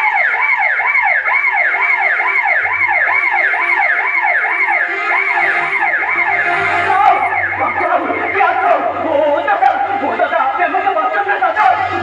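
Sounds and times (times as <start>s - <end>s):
fast-warbling siren wail: 0.0s - 10.6s.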